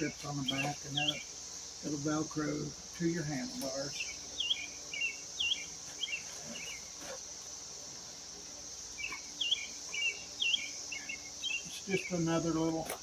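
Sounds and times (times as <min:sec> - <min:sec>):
insect chorus: 0:00.0 - 0:13.0
songbird chirping: 0:00.0 - 0:13.0.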